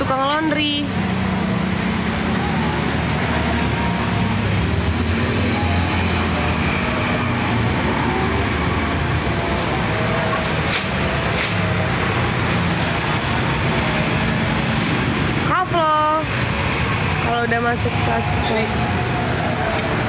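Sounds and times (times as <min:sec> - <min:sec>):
road traffic with engine hum: 0:00.0 - 0:20.0.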